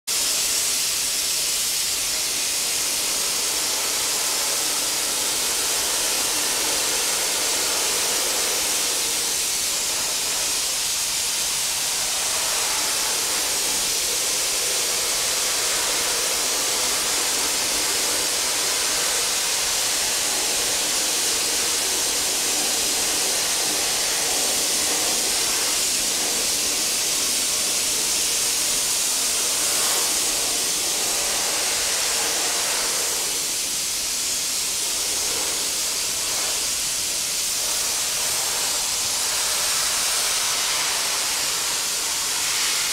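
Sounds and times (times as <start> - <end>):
compressed air nozzle hissing: 0.1 - 42.9.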